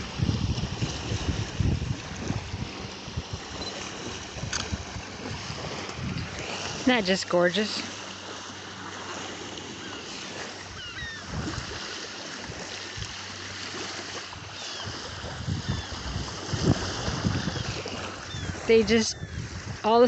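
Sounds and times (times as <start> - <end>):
wind on microphone: 0.0 - 7.2, 10.3 - 20.0
small waves washing on beach: 0.0 - 20.0
water birds calling: 0.0 - 20.0.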